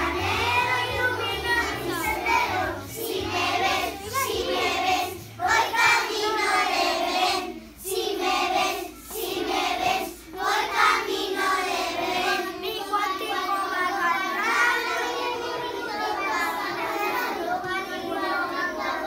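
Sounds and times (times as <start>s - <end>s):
young children singing in unison: 0.0s - 19.0s.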